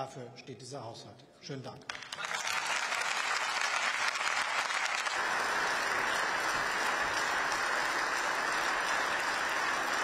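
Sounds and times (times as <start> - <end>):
crowd applauding: 1.9 - 10.0.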